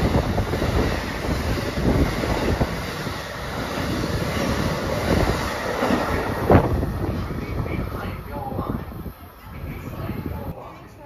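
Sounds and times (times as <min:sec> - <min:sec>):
train clatter: 0:00.0 - 0:10.6
train wheels rushing on rail: 0:00.0 - 0:10.6.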